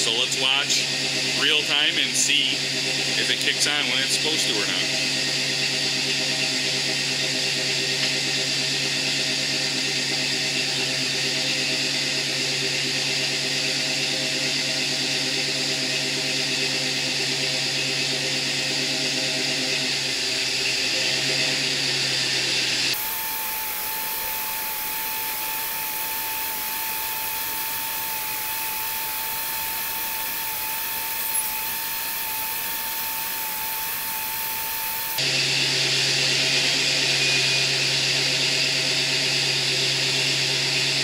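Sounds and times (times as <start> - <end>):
radiator fan whirring: 0.0 - 35.3.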